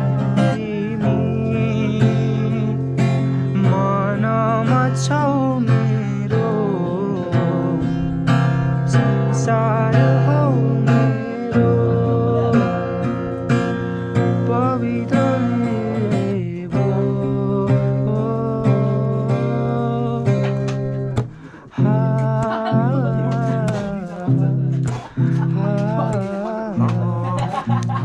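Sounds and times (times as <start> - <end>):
acoustic guitar strummed: 0.0 - 28.0
man singing: 0.0 - 28.0.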